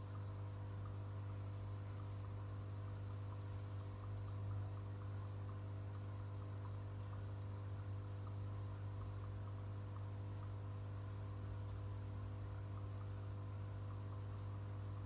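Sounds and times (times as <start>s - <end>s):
air bubbles ticking: 0.0s - 15.0s
aquarium air pump humming: 0.0s - 15.0s.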